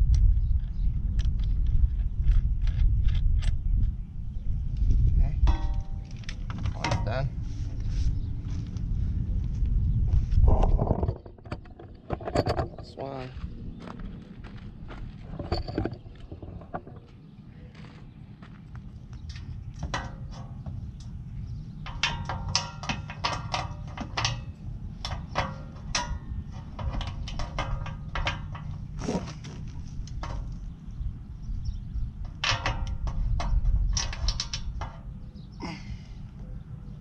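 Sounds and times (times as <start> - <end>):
steady low rumble: 0.0 - 37.0.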